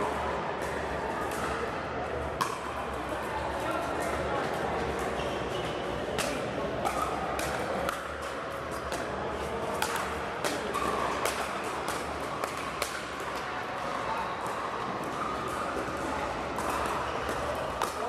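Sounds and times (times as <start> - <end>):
murmur of indoor hall: 0.0 - 18.0.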